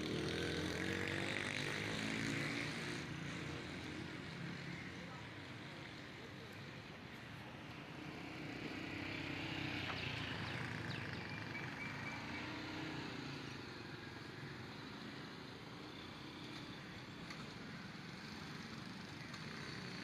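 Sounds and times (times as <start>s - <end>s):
vehicles passing on road: 0.0s - 20.0s.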